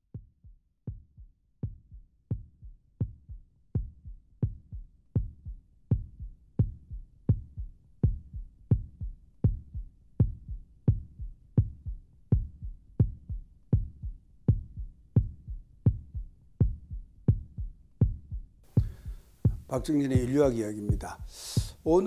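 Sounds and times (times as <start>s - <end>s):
deep heartbeat-like thump: 0.2s - 22.0s.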